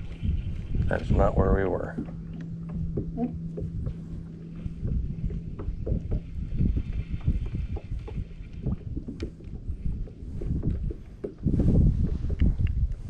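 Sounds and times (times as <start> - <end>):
steady low hum: 0.0 - 13.0
water slapping boat hull: 0.0 - 13.0
wind buffeting microphone: 0.0 - 13.0.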